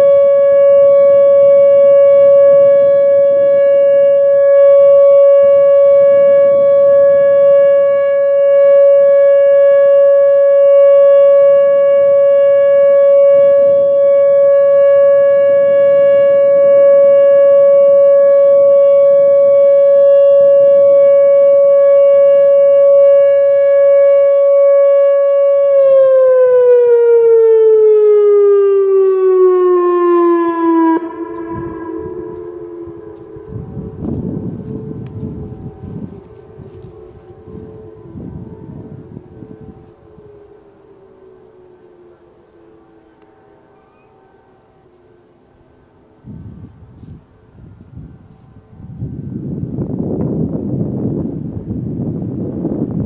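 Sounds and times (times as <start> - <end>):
warning siren alert tone: 0.0 - 53.0.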